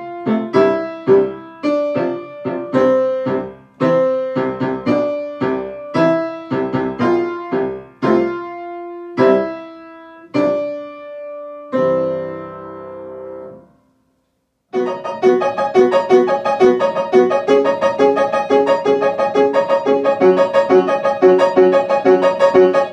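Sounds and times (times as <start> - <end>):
piano playing: 0.0 - 13.8, 14.7 - 22.9.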